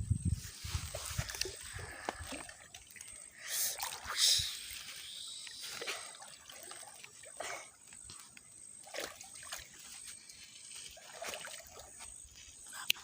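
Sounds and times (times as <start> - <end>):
water splashing in a stream: 0.6 - 12.7.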